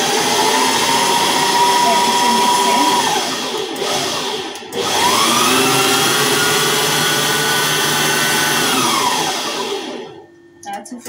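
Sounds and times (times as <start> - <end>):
stand mixer motor whine: 0.0 - 10.5.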